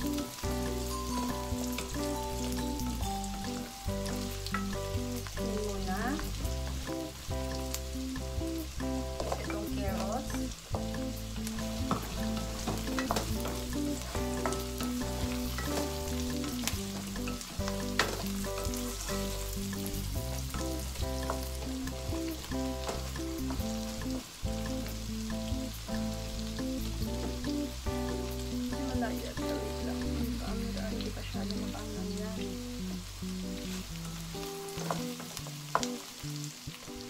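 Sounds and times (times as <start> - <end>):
background music: 0.0 - 37.0
vegetables sizzling in frying pan: 0.0 - 37.0.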